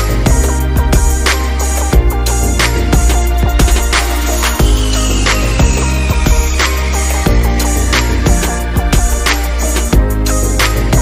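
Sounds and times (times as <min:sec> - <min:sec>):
music with drum beat and bass: 0:00.0 - 0:11.0.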